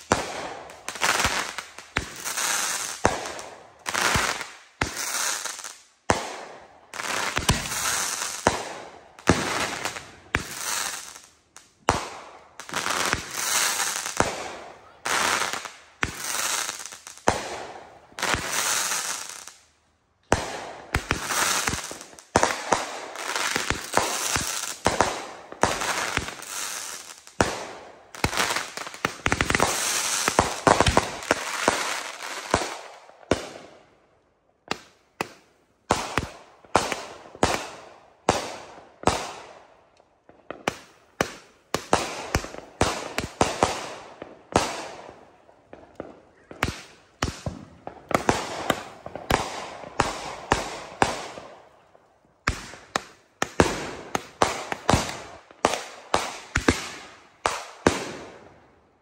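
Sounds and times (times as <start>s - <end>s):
fireworks aerial bangs with crackle: 0.0s - 19.6s, 20.3s - 33.8s, 34.7s - 58.6s.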